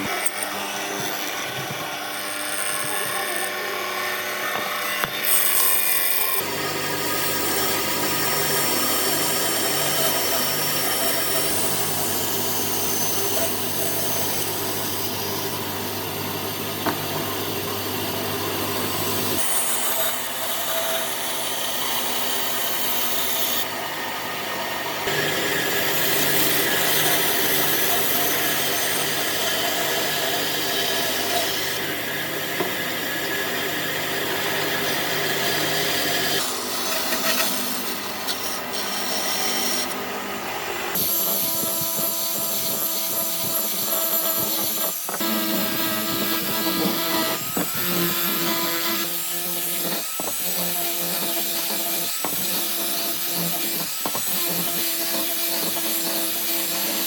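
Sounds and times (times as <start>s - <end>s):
power tool rasping wood: 0.0s - 57.0s.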